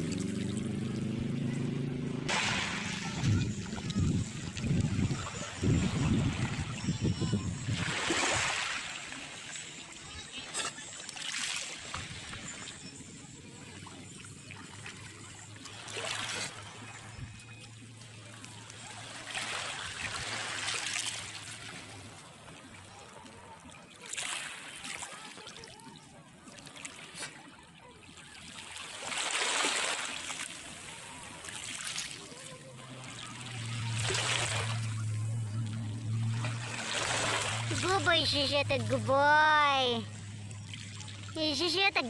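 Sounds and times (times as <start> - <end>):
water lapping at pebbly shore: 2.3 - 42.0.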